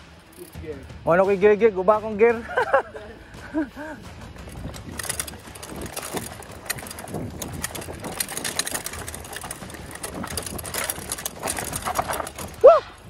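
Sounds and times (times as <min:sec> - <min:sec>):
mountain bike rattling on dirt: 0:00.0 - 0:13.0.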